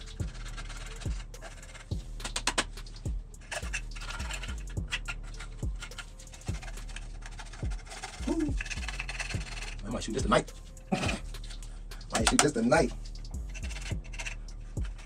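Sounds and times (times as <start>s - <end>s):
background music with bass kick: 0.0s - 15.0s.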